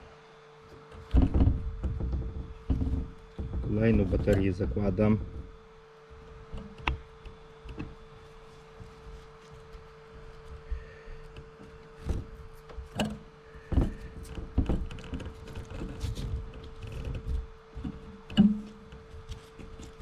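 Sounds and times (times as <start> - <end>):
clicks knocks and thuds: 0.8 - 5.6, 6.2 - 20.0.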